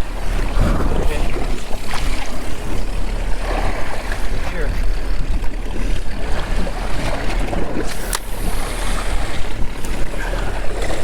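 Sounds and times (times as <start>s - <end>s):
sea water washing around boat: 0.0s - 11.0s
steady low rumble: 0.0s - 11.0s
wind buffeting microphone: 0.0s - 11.0s.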